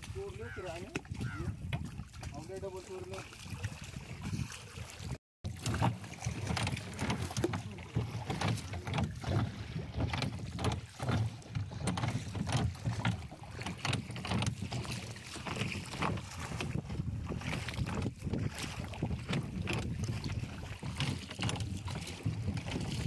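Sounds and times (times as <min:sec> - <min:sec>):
wind rumble on microphone: 0:00.0 - 0:10.9, 0:14.3 - 0:23.0
oar strokes in water: 0:00.0 - 0:23.0
oar knocking in oarlock: 0:00.5 - 0:02.0, 0:05.5 - 0:23.0.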